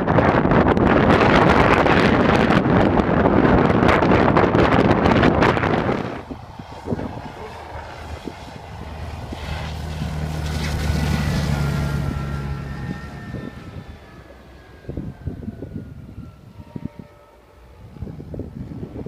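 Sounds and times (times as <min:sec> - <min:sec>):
heavy vehicle engine droning: 0:00.0 - 0:19.0
wind buffeting microphone: 0:00.0 - 0:19.0.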